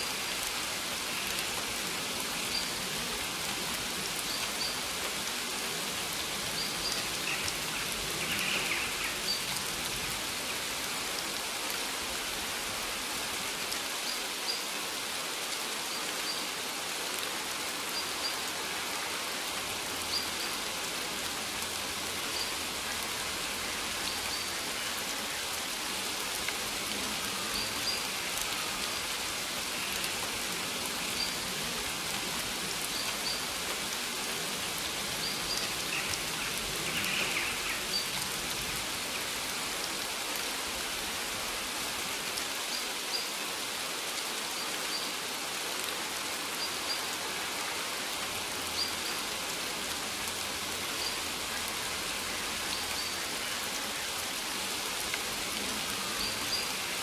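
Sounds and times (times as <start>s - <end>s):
rain on leaves: 0.0s - 57.0s.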